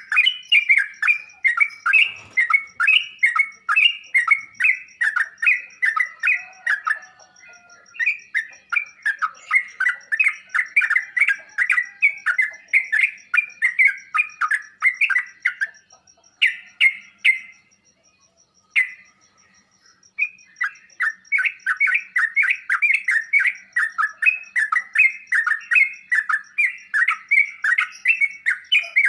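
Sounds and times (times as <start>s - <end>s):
bird chattering call: 0.0s - 29.0s.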